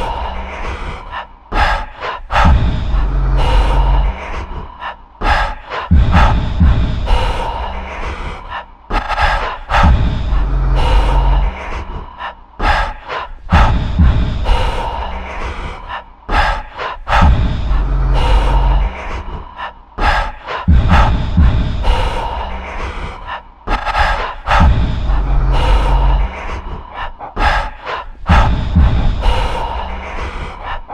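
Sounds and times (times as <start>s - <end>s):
deep low rumble: 0.0s - 30.9s
person gasping heavily: 0.0s - 30.9s.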